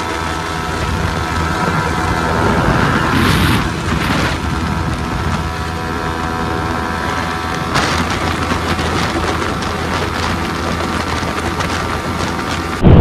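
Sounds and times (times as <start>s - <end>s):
motorcycle engines at high revs: 0.0s - 13.0s
wind rushing over microphone: 0.0s - 13.0s.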